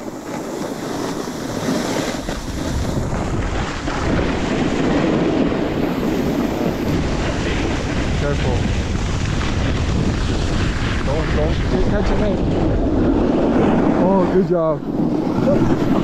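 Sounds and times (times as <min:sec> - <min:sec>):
snowboards scraping over snow: 0:00.0 - 0:16.0
wind on microphone: 0:00.0 - 0:16.0.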